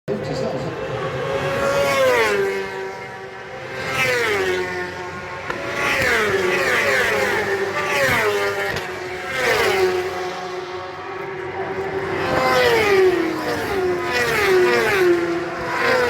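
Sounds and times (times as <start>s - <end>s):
racing motorcycles passing: 0.1s - 16.0s.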